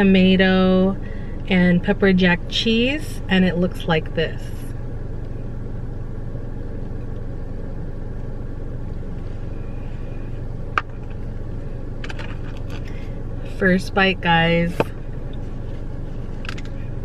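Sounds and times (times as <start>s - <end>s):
car idling: 0.0s - 17.0s.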